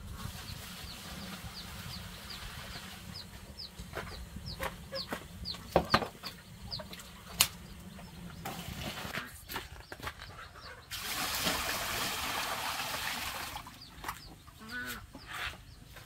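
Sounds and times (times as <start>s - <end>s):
chicks peeping: 0.0s - 11.0s, 13.7s - 16.0s.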